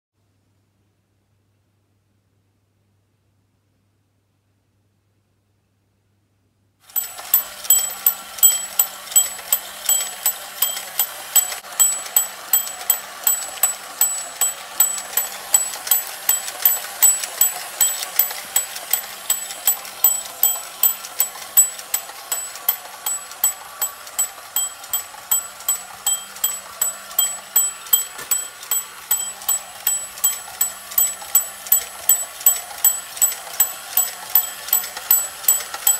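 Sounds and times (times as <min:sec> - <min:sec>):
small electric motor humming: 0:06.9 - 0:35.9
tinkling toy bell ringing: 0:06.9 - 0:35.9.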